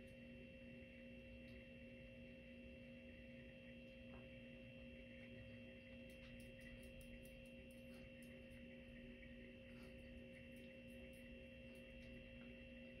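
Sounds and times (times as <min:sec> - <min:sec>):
faint tonal hum: 0:00.0 - 0:13.0.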